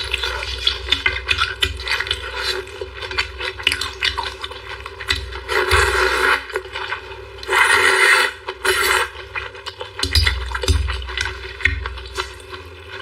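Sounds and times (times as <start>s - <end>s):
chewing and smacking: 0.0s - 13.0s.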